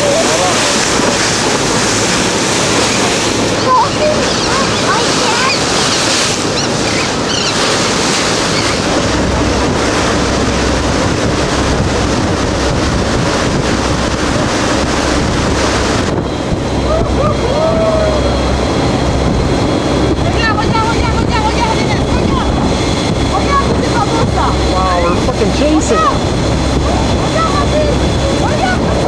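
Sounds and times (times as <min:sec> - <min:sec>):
low engine hum: 0:00.0 - 0:29.0
sea water splashing around boat: 0:00.0 - 0:29.0
wind buffeting microphone: 0:00.0 - 0:29.0.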